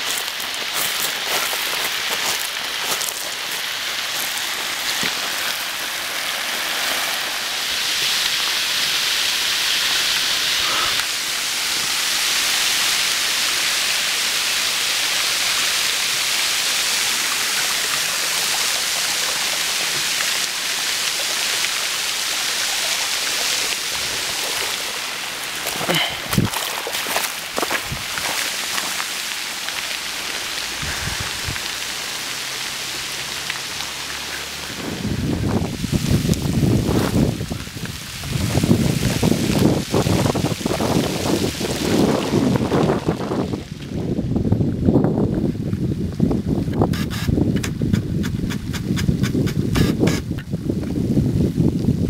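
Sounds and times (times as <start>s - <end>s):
water rushing over gravel: 0.0s - 52.0s.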